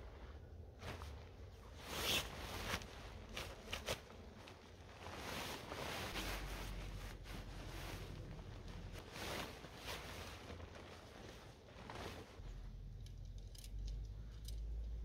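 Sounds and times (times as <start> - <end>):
tent fabric swishing and rustling: 0.0 - 12.6.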